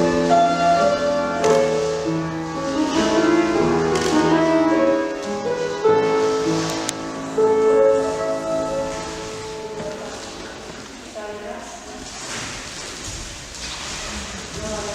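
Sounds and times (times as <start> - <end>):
classical piano music: 0.0 - 14.9.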